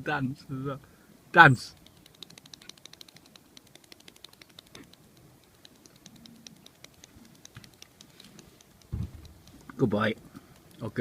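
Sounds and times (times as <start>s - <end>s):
gull feet pattering: 1.7s - 11.0s.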